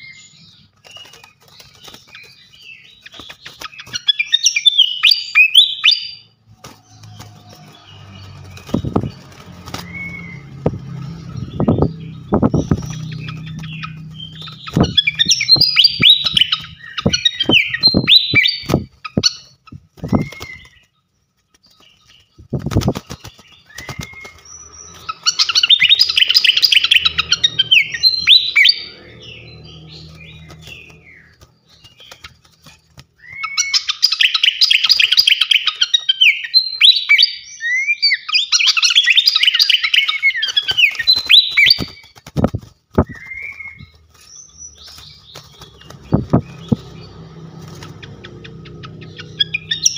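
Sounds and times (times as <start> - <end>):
songbird chattering song: 0.0 - 49.9.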